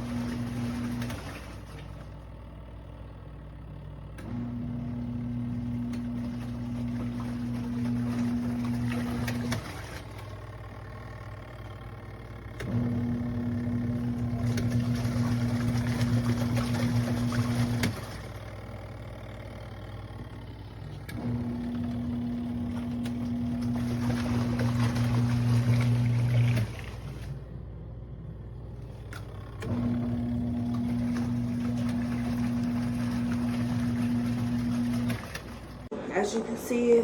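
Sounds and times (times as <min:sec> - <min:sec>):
washing machine motor humming: 0:00.0 - 0:37.0.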